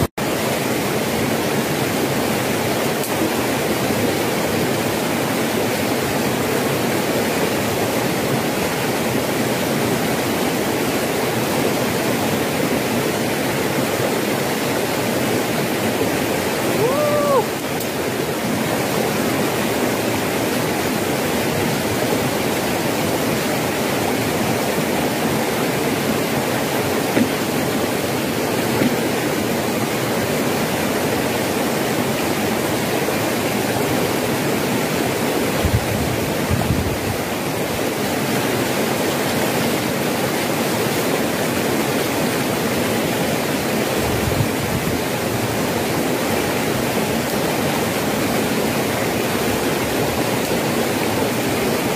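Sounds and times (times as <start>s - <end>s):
flowing water rushing: 0.0s - 51.9s.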